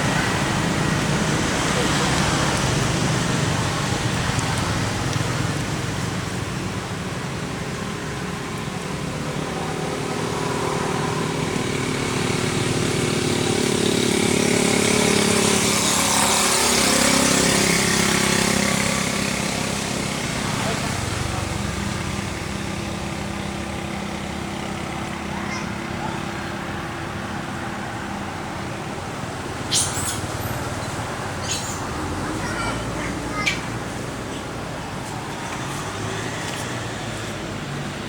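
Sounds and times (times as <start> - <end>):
motor vehicle engine running: 0.0 - 38.0.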